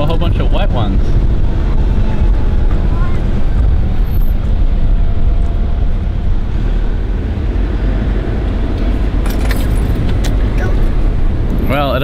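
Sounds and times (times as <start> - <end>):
tyres and engine rumbling: 0.0 - 12.0.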